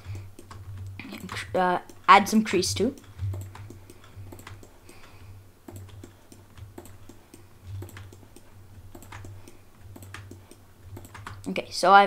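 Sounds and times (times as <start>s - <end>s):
computer mouse and keyboard clicking: 0.0s - 11.7s
low steady hum: 0.0s - 12.0s.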